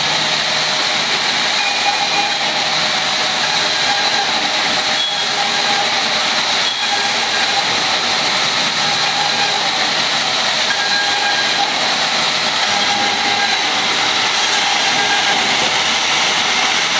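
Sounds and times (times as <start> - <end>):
band saw cutting wood: 0.0 - 16.9.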